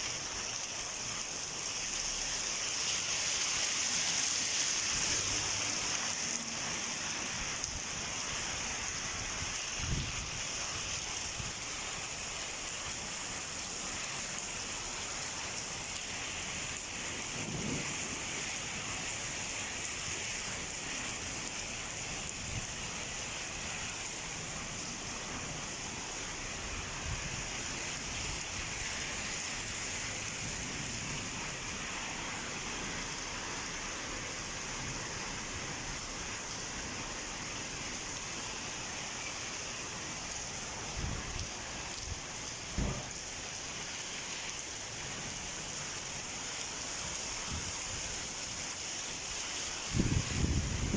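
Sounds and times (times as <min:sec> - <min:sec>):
heavy rain hissing: 0:00.0 - 0:50.9.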